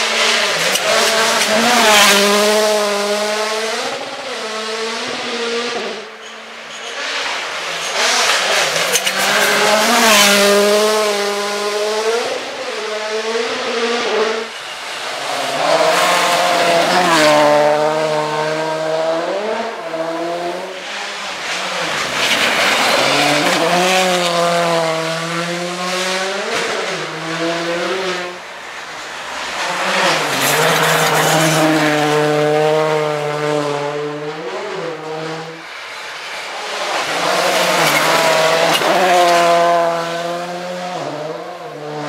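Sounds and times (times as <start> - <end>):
rally cars passing at speed: 0.0 - 42.0.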